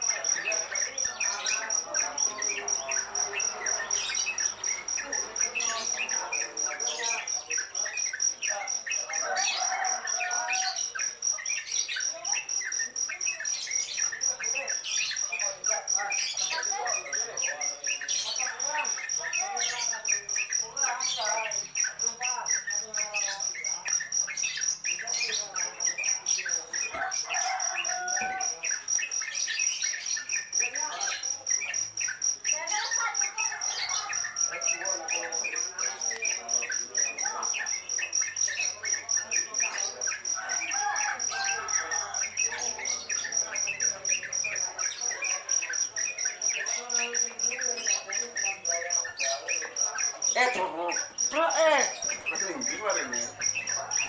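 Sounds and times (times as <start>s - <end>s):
cricket trill: 0.0s - 54.0s
nestlings chirping: 0.0s - 54.0s.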